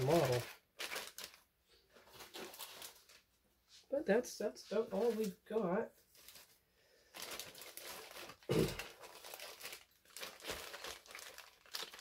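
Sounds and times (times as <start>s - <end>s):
plastic bags crinkling: 0.0s - 3.3s, 4.9s - 12.0s.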